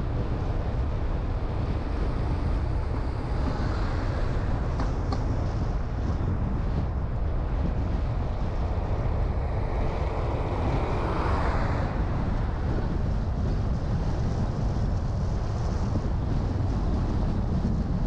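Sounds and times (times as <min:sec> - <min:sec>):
car road and wind noise: 0:00.0 - 0:18.0.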